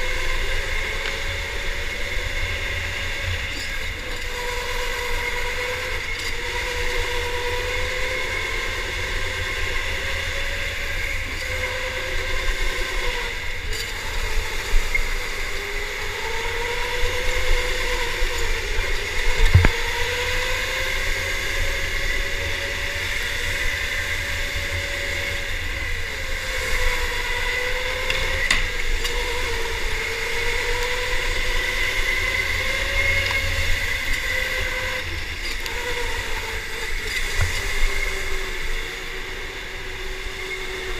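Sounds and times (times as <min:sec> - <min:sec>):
electric motor whining: 0:00.0 - 0:40.9.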